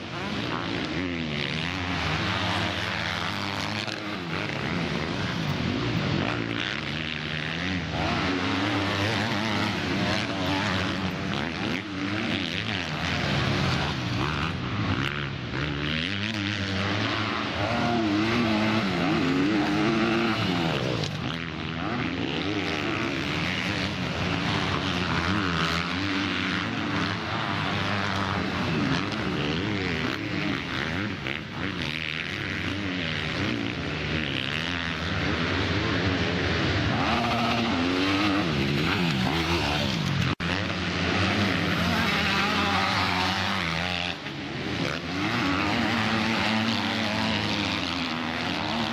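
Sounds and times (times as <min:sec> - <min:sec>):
motocross bikes revving: 0:00.0 - 0:48.9.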